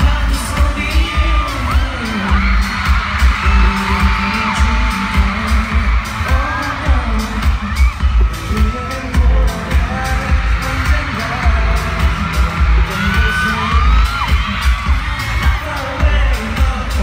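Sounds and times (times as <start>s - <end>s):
crowd screaming: 0.0s - 17.0s
heavy bass beat: 0.0s - 17.0s
person singing: 0.0s - 17.0s
pop song through concert speakers: 0.0s - 17.0s.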